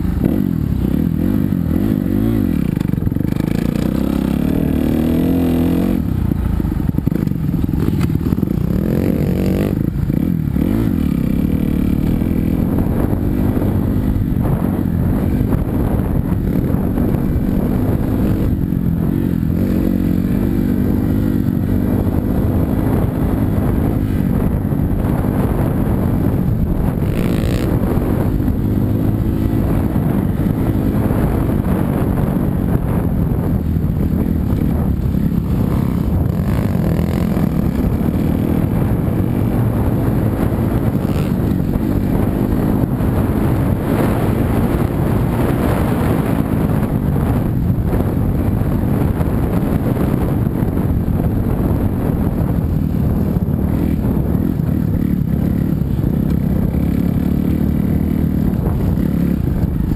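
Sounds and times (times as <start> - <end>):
motorcycle engine revving: 0.0 - 59.9
wind noise on microphone: 0.0 - 59.9.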